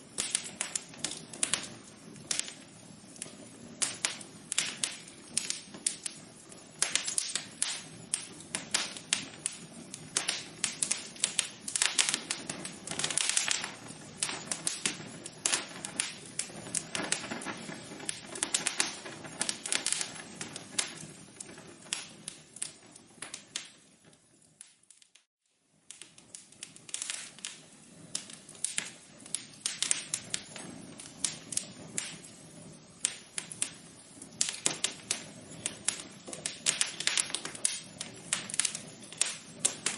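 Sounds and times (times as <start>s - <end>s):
soft hiss of fire: 0.0s - 39.9s
wood fire crackling: 0.0s - 39.9s.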